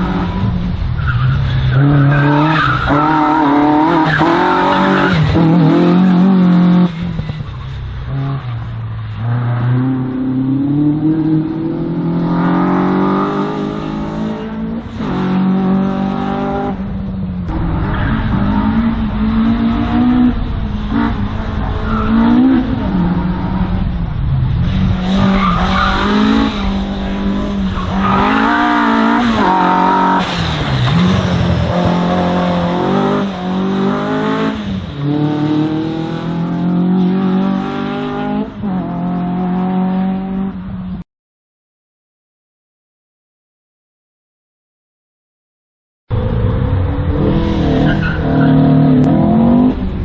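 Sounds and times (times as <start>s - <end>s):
race car engine revving: 0.0s - 40.6s, 46.1s - 50.0s.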